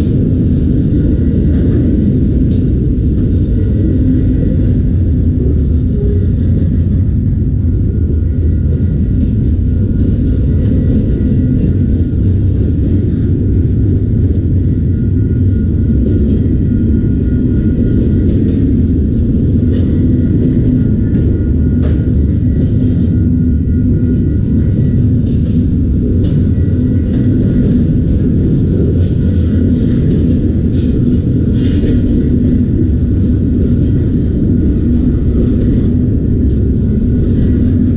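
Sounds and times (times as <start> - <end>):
freight cars rumbling on rails: 0.0 - 37.9.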